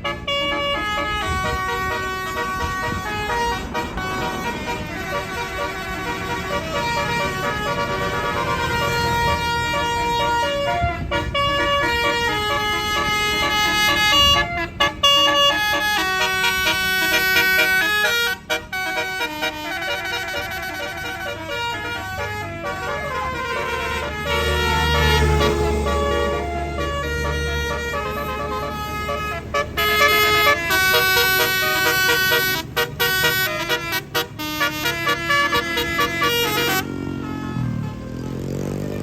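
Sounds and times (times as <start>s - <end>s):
low engine rumble: 0.0s - 39.0s
multi-tone bus horn melody: 0.0s - 39.0s.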